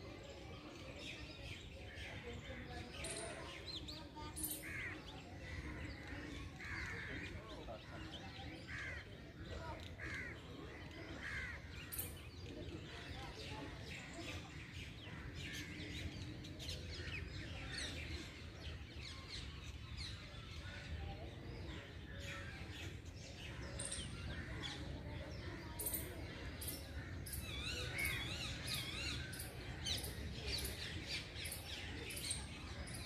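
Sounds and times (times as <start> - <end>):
small birds chirping: 0.6 - 33.0.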